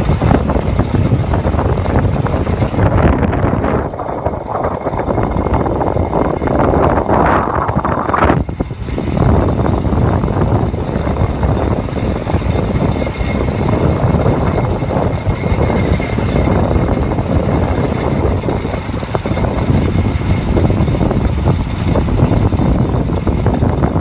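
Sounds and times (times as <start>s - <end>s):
car road noise: 0.0s - 24.0s.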